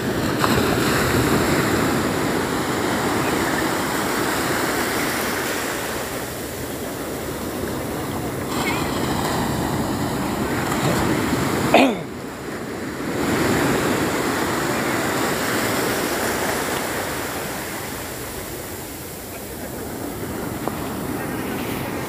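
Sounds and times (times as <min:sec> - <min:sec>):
sea waves washing on beach: 0:00.0 - 0:22.0.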